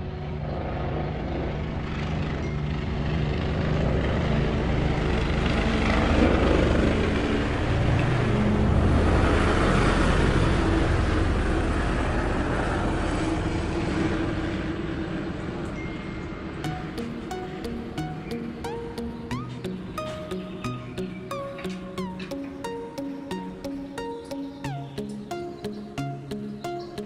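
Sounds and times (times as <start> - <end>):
passing engine drone: 0.0 - 15.7, 16.3 - 27.0.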